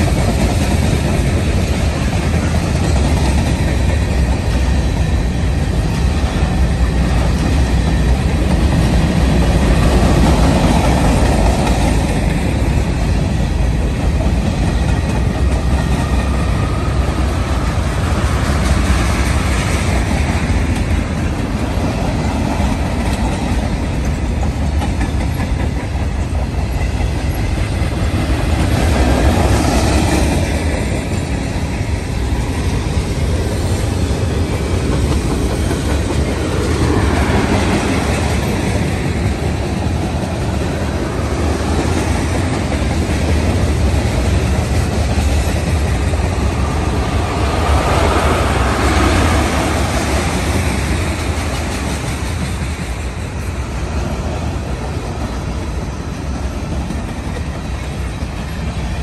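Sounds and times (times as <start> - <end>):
freight train rolling on rails: 0.0 - 59.0.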